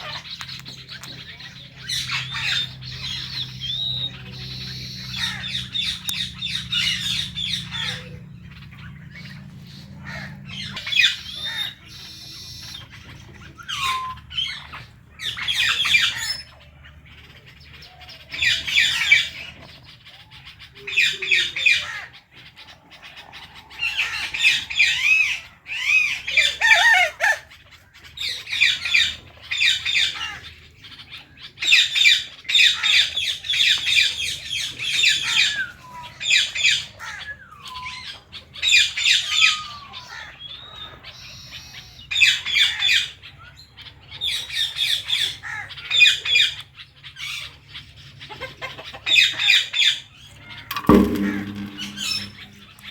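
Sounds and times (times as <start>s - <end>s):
parrots squawking and chattering: 0.0s - 50.8s.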